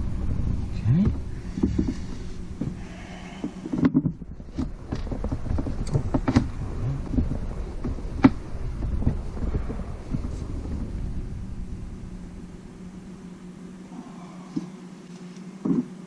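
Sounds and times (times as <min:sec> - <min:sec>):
valve grinding with gritty scraping: 0:00.0 - 0:16.0.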